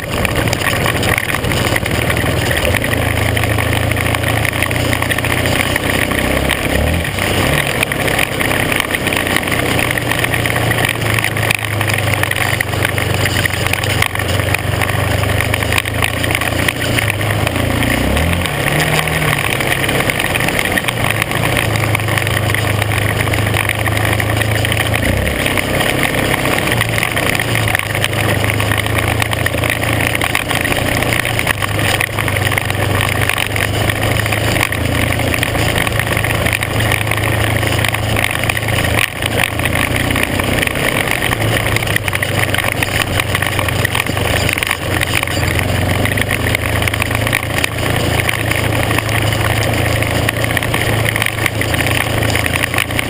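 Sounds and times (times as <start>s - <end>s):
constant rushing noise: 0.0s - 53.0s
off-road vehicle engine: 0.0s - 53.0s.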